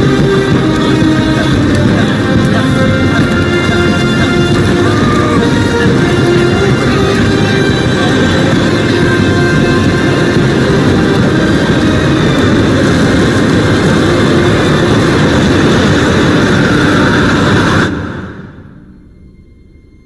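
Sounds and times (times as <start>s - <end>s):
loud roar of snowstorm: 0.0s - 19.9s
blizzard wind rushing: 0.0s - 20.0s
eerie film score held tones: 0.0s - 20.0s.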